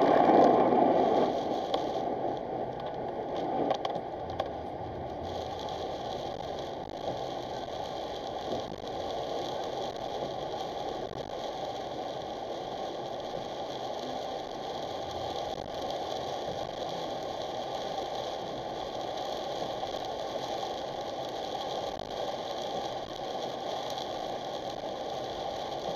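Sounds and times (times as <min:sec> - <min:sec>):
road noise inside car: 0:00.0 - 0:25.9.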